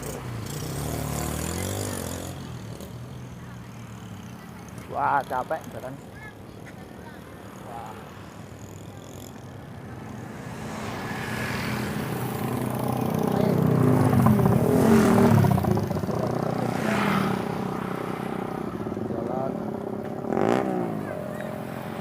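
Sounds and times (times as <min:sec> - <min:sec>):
traffic passing on a bridge: 0:00.0 - 0:22.0.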